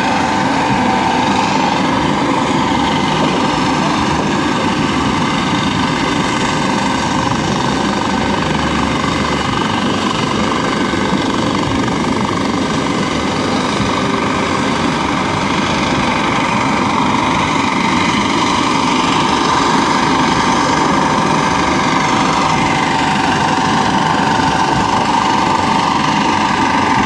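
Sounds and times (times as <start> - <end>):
helicopter rotor beating: 0.0 - 27.0
turbine whine: 0.0 - 27.0.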